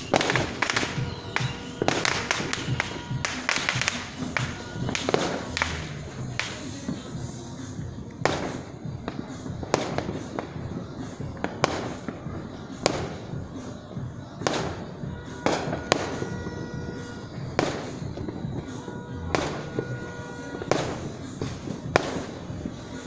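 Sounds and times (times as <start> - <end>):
fireworks bangs with echo: 0.0 - 23.0.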